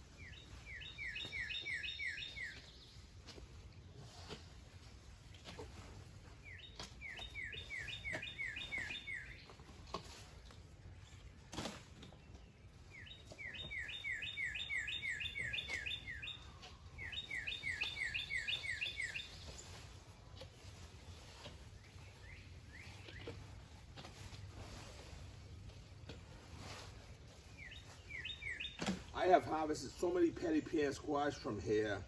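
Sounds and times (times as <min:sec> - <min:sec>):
songbird singing: 0:00.0 - 0:11.3, 0:12.0 - 0:32.0.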